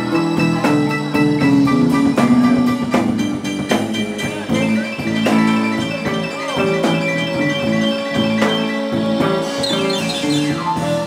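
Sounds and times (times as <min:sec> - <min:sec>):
drum kit beat: 0:00.0 - 0:11.0
live blues band playing: 0:00.0 - 0:11.0.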